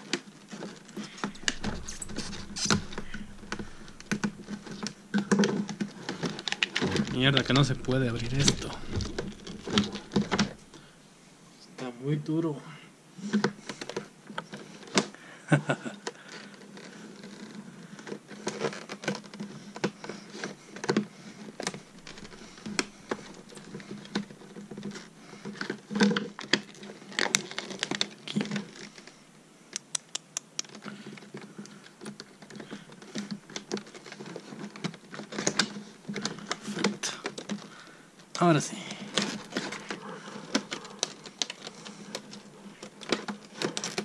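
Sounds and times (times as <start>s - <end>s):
plastic packaging clicking and crackling: 0.0s - 11.0s, 15.9s - 44.0s.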